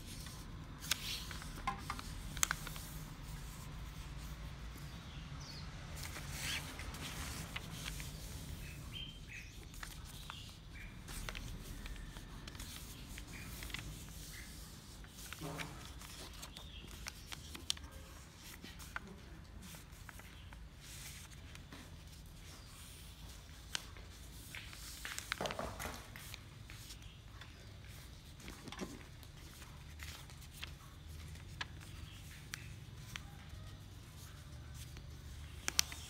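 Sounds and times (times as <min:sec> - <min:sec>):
paper being folded: 0:00.0 - 0:36.0.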